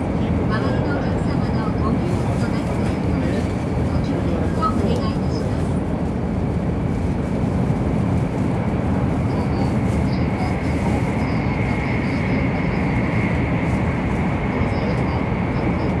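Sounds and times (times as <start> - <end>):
train interior rumble: 0.0 - 16.0.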